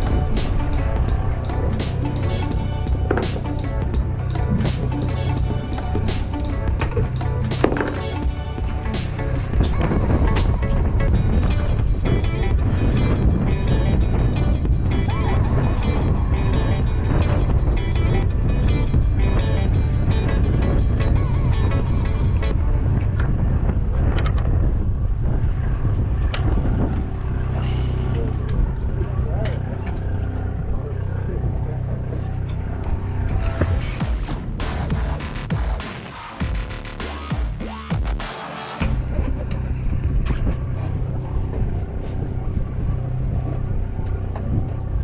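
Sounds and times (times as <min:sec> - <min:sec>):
wind buffeting microphone: 0:00.0 - 0:34.8, 0:38.8 - 0:45.0
boat rumble: 0:00.0 - 0:45.0
steady engine hum: 0:00.0 - 0:45.0.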